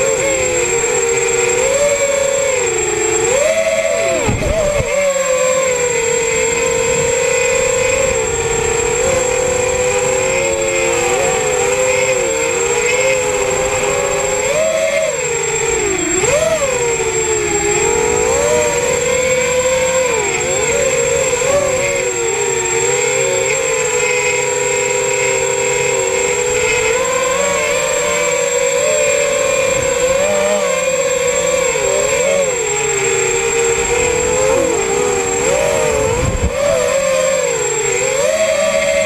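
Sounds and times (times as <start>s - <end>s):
quadcopter motors whining: 0.0s - 39.0s.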